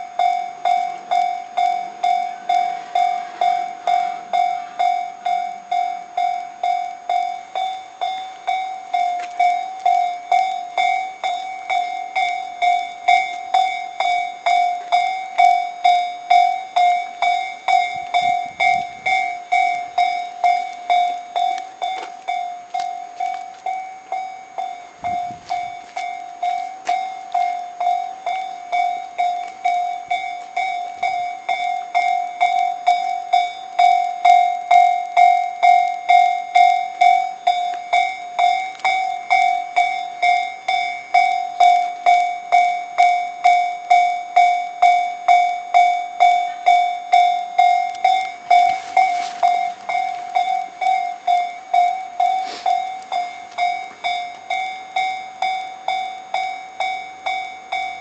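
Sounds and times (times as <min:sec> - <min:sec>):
level crossing electronic bell ringing: 0:00.0 - 0:58.0.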